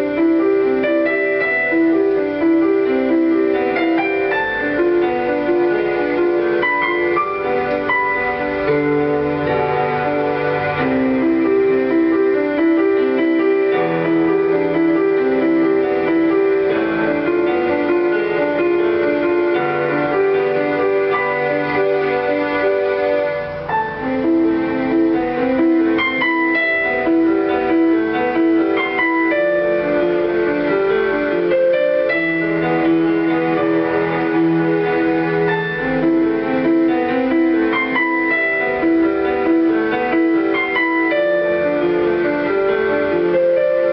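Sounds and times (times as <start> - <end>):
flowing piano piece: 0.0 - 43.9.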